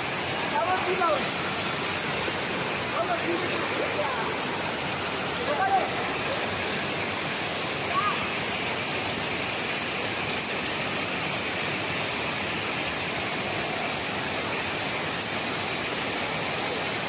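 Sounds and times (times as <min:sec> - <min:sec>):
water rushing over weir: 0:00.0 - 0:17.0.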